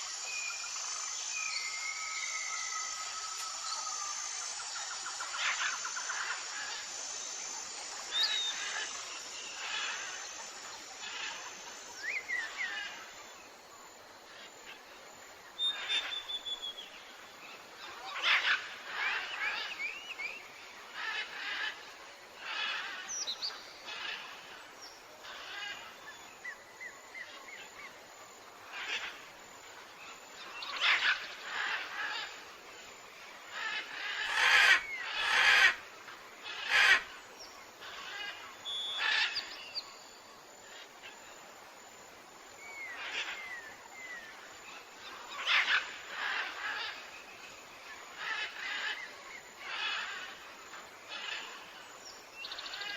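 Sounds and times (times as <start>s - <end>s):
faint steady hiss: 0.0s - 52.9s
tropical forest birds calling: 0.0s - 52.9s.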